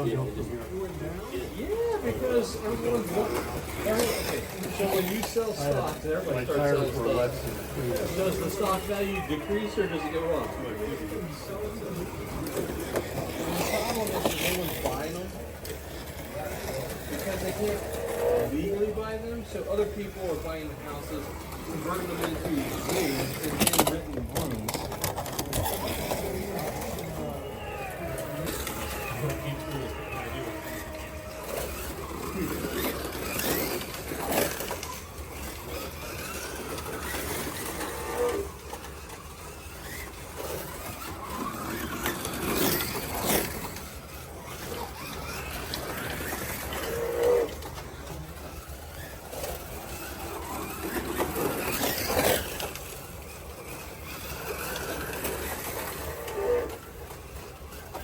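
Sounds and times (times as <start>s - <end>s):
slot car motors whining: 0.0s - 58.0s.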